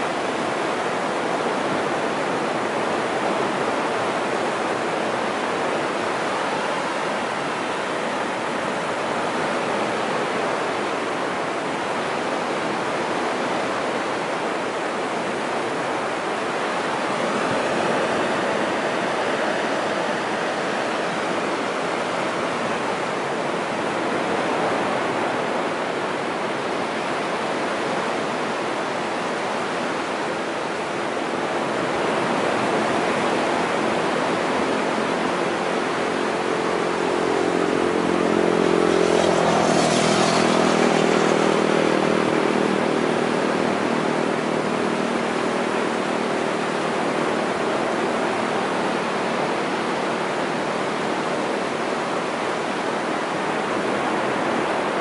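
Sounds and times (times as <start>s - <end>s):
surf breaking on beach: 0.0s - 55.0s.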